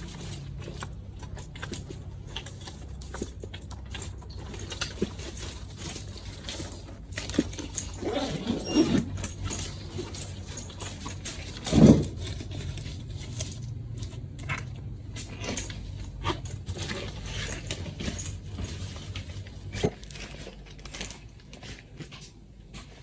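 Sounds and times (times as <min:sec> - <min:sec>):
hands rummaging through bags: 0:00.0 - 0:23.0.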